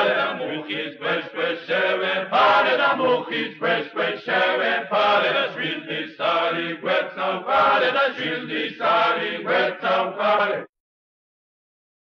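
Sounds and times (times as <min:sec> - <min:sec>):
voices chanting: 0:00.0 - 0:10.7.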